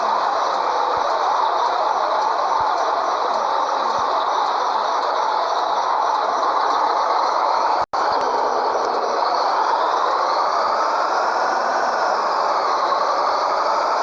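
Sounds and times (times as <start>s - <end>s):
truck engine and rolling drone: 0.0s - 14.0s.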